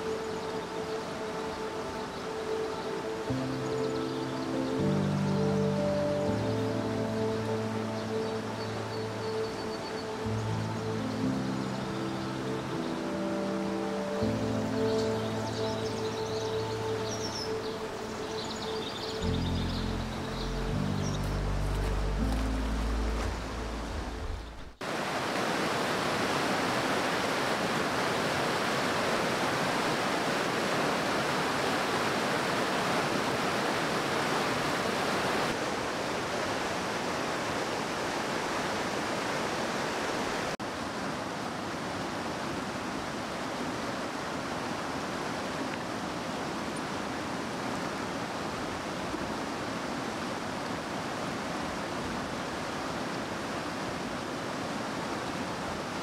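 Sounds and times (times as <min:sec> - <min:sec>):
river rushing over boulders: 0:00.0 - 0:56.0.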